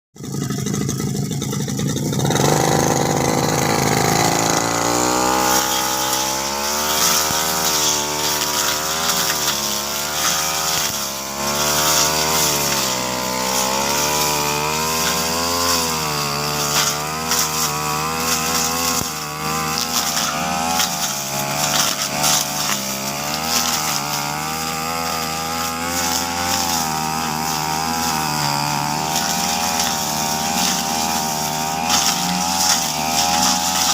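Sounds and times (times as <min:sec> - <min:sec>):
brush cutter engine running: 0:00.2 - 0:33.9.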